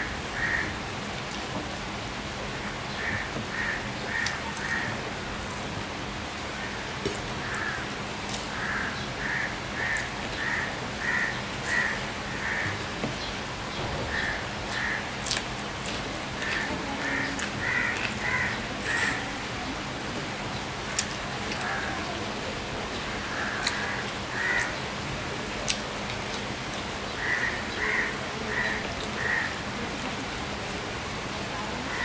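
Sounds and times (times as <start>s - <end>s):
rain hissing: 0.0s - 32.0s.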